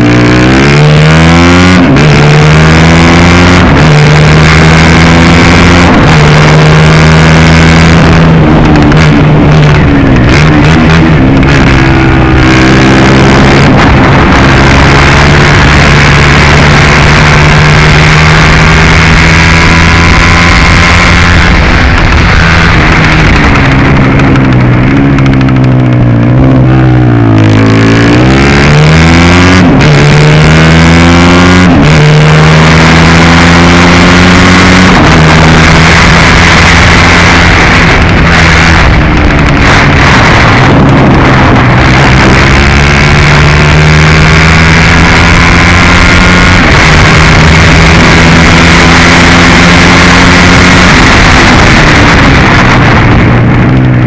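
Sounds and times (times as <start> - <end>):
kart engine at racing speed: 0.0 - 54.0.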